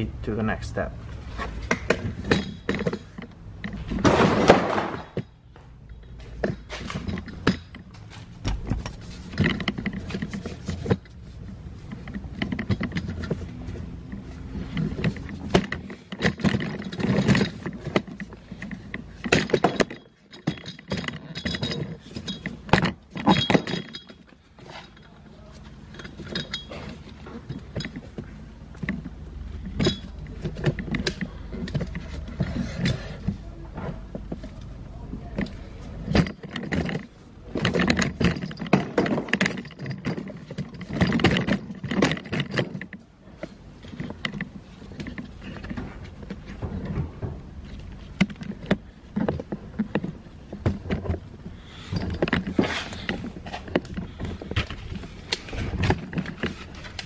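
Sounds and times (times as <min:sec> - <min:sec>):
low steady hum: 0:00.0 - 0:57.0
metal tools clinking and clattering: 0:01.3 - 0:57.0.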